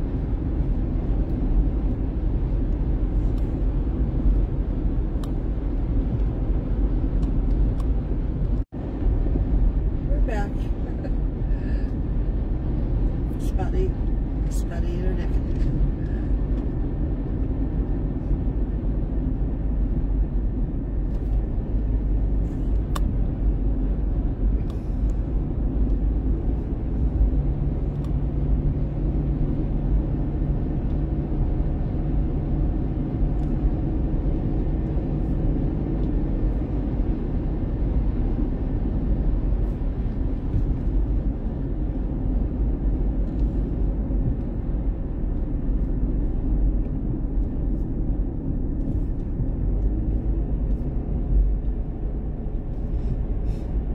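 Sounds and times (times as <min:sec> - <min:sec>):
car tyres and engine rumble: 0:00.0 - 0:53.9.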